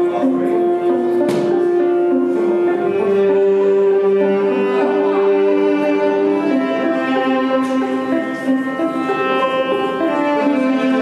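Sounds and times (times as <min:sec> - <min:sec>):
slow bowed strings music: 0:00.0 - 0:11.0.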